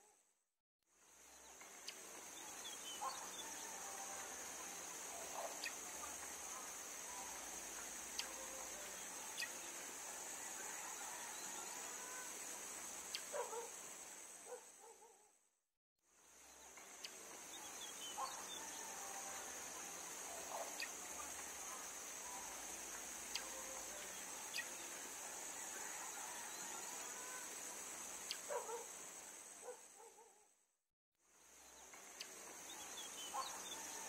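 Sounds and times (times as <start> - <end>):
insects chirring: 1.1 - 15.1, 16.2 - 30.4, 31.4 - 34.0.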